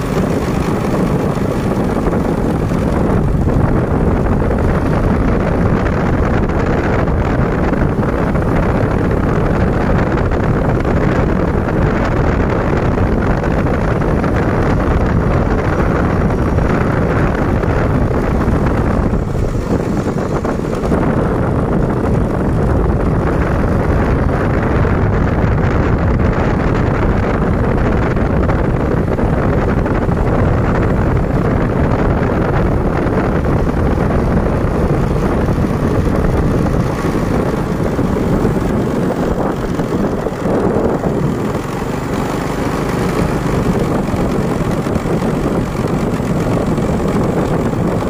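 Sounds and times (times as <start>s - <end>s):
vehicle road noise: 0.0s - 48.0s
wind buffeting microphone: 0.0s - 48.0s.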